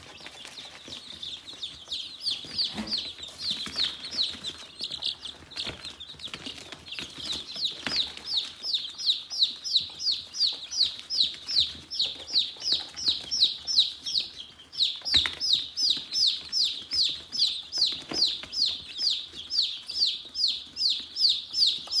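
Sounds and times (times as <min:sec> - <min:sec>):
chick peeping loudly: 0:00.0 - 0:22.0.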